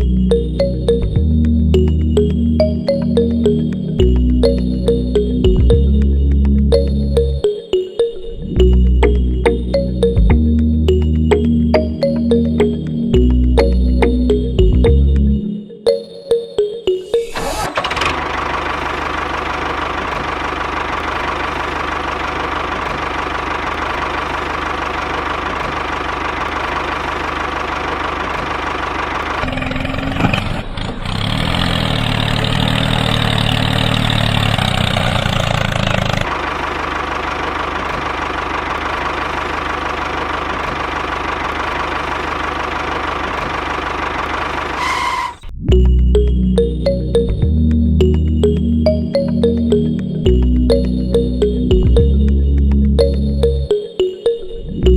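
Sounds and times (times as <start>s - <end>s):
engine running: 0.0s - 15.6s, 17.1s - 54.9s.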